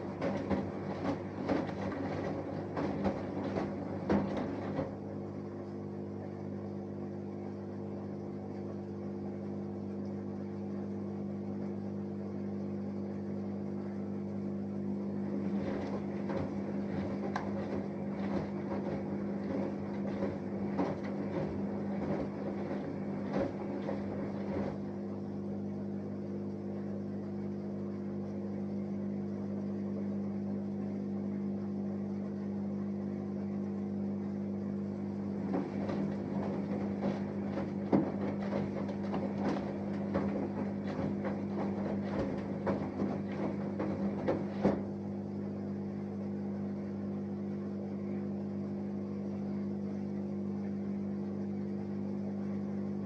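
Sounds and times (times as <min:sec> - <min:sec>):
washing machine humming: 0:00.0 - 0:53.0.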